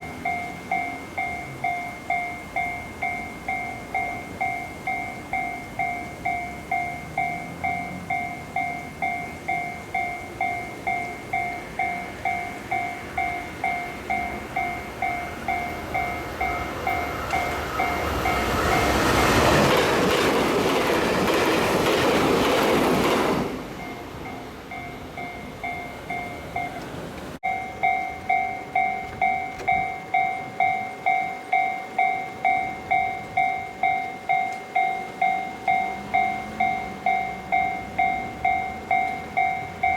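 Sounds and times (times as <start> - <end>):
level-crossing bell dinging: 0.0 - 19.8, 23.7 - 39.9
train rushing past: 0.0 - 39.9.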